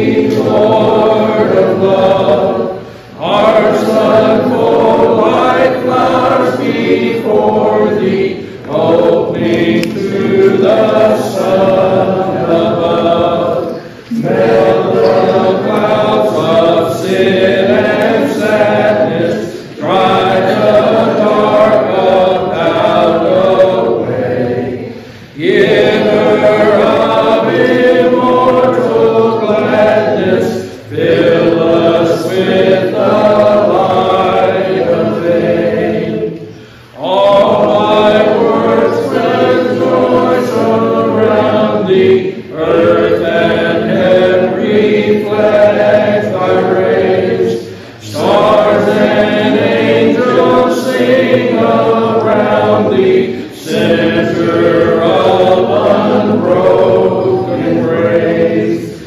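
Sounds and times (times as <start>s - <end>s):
man singing a hymn: 0.0s - 36.2s, 36.8s - 59.0s
group singing: 0.0s - 59.0s.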